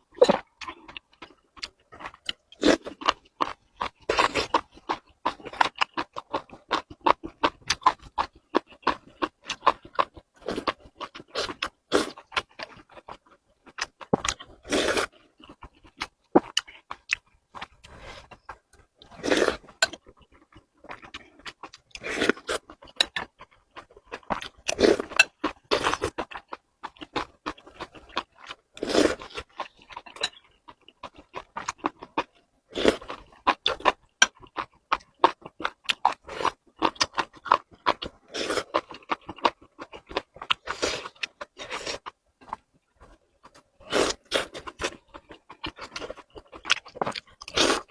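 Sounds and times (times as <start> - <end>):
chewing and crunching: 0.0 - 47.9.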